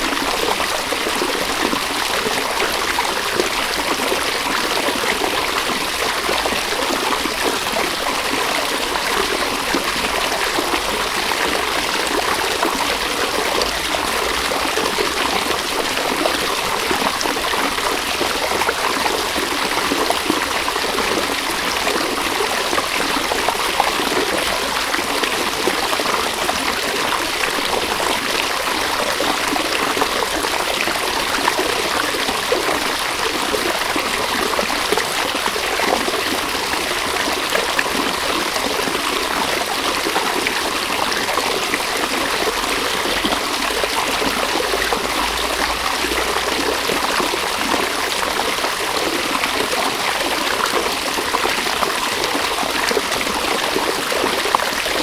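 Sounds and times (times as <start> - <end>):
river water running over stones: 0.0 - 55.0.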